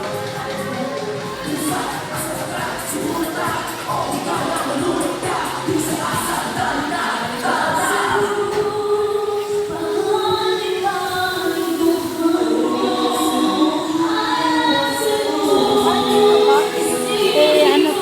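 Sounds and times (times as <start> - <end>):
choir-like wordless vocals: 0.0 - 18.0.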